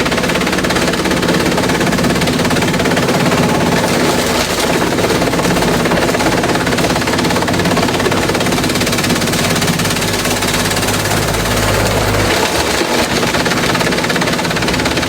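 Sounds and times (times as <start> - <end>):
low engine hum: 0.0 - 15.0
shredder chopping clatter: 0.0 - 15.0.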